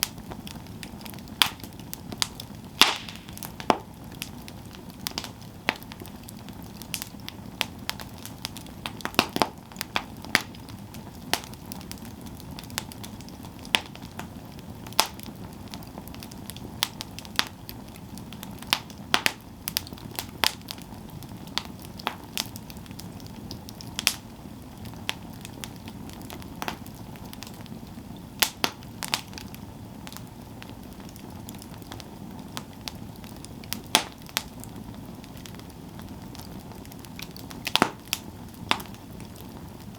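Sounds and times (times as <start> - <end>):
burning wood crackling and popping: 0.0 - 39.9
campfire flames rushing: 0.0 - 39.9.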